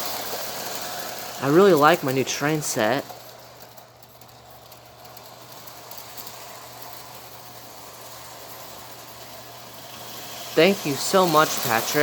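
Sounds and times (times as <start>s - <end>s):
toy train motor whirring and rattling: 0.0s - 12.0s.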